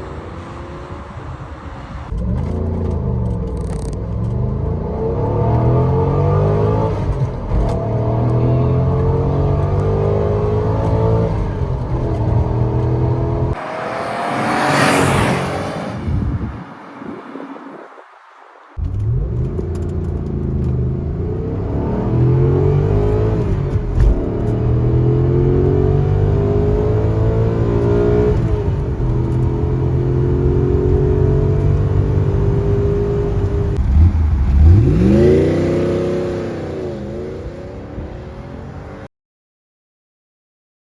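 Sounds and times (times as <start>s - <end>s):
car engine accelerating through gears: 0.0s - 16.6s, 18.8s - 39.1s.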